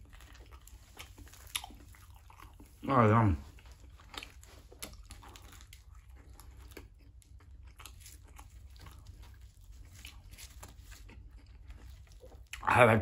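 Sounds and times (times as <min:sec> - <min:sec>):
bread crunching while chewed: 0:00.0 - 0:12.7.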